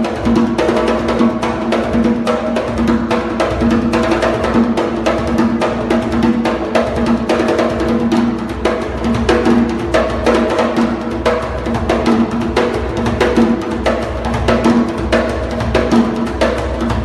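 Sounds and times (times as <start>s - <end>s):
drums played in fast rhythm: 0.0s - 17.0s.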